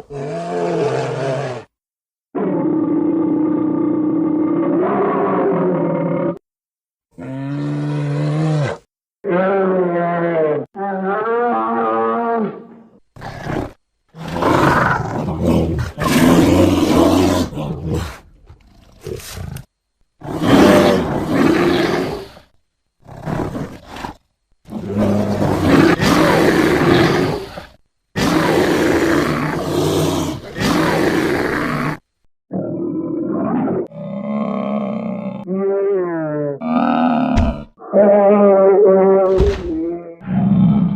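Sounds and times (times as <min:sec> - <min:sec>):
deep rough bear roars: 0:00.0 - 0:06.4, 0:07.2 - 0:40.9.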